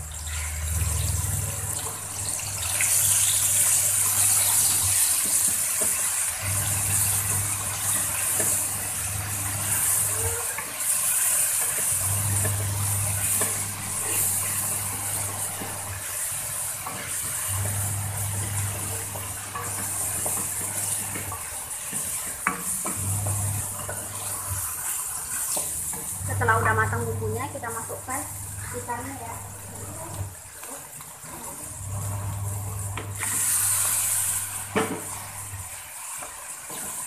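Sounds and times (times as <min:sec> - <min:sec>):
spice paste sizzling in oil: 0:00.0 - 0:37.0
wooden spatula stirring: 0:00.8 - 0:37.0.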